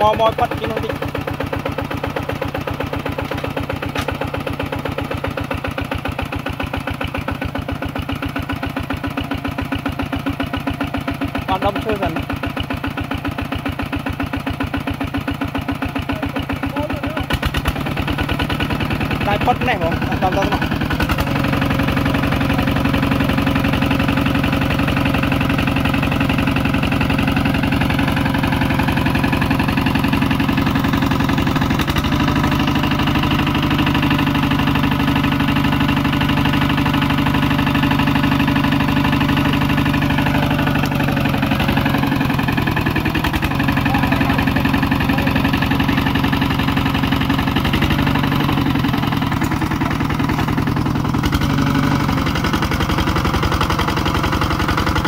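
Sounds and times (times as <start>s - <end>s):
single-cylinder diesel engine running: 0.0s - 55.0s.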